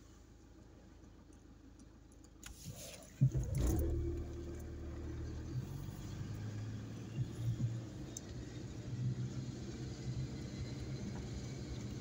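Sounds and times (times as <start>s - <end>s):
car engine starting and running: 0.4s - 12.0s.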